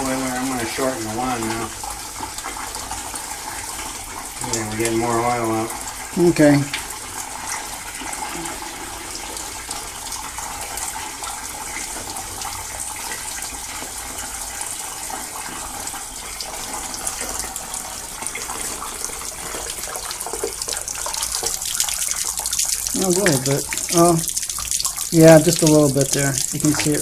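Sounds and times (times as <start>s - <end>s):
water spraying from hose wand: 0.0s - 27.0s.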